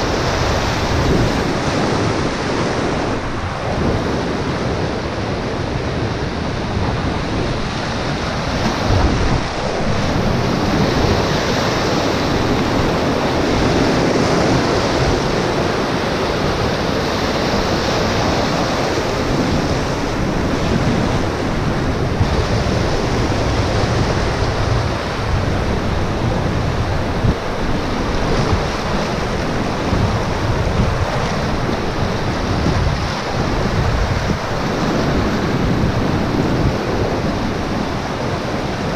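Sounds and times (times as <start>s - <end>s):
river rapids rushing: 0.0s - 38.9s
wind buffeting microphone: 0.0s - 38.9s.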